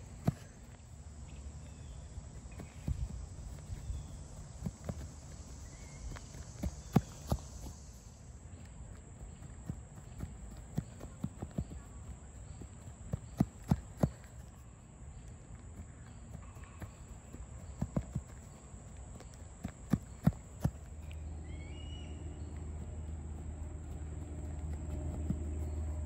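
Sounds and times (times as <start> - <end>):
sneaker footsteps on artificial turf: 0.0 - 1.0, 2.4 - 26.0.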